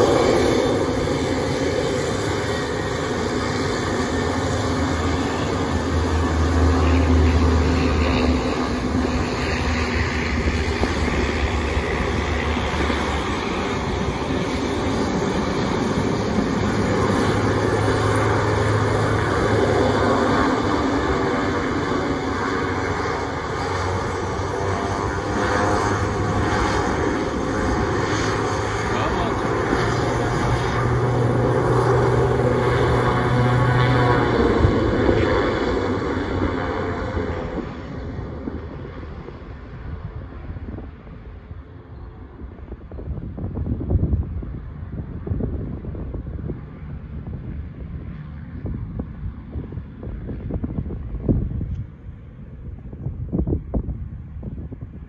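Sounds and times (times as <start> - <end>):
turboprop engines droning: 0.0 - 55.0.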